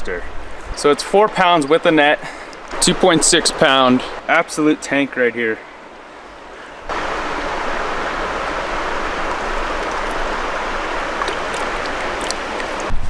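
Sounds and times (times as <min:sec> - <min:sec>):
river water rushing: 0:00.2 - 0:13.0.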